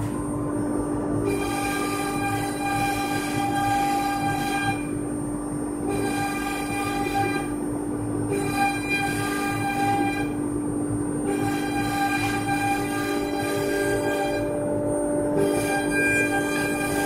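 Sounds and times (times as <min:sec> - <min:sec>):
higher multi-tone machine whine: 0:00.0 - 0:17.0.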